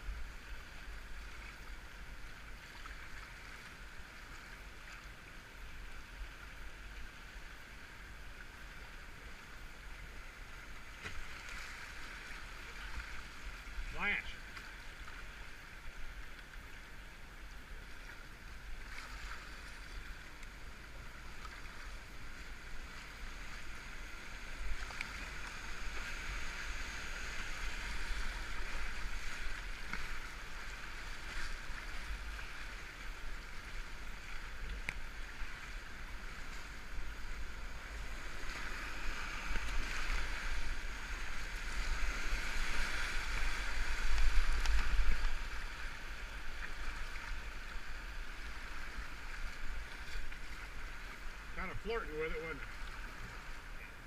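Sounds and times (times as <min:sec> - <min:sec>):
muffled river water rushing: 0:00.0 - 0:54.0.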